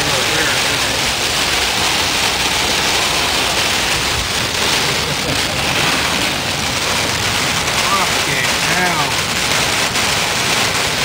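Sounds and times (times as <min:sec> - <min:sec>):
car road noise: 0:00.0 - 0:11.0
heavy rain on a car: 0:00.0 - 0:11.0.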